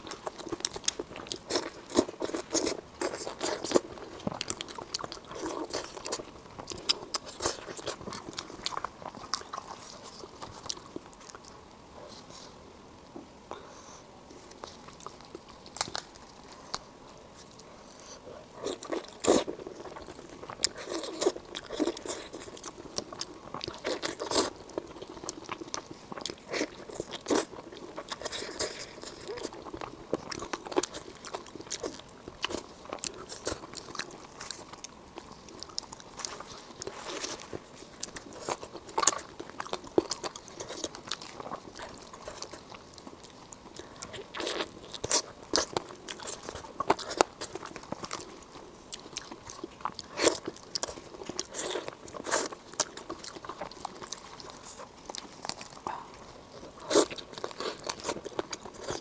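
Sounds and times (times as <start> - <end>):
person chewing crunchy food: 0.0 - 12.6, 13.5 - 59.0.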